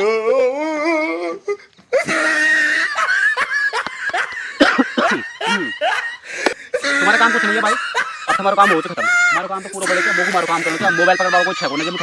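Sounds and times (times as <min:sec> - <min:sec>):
breathy laughter: 0:01.5 - 0:12.0.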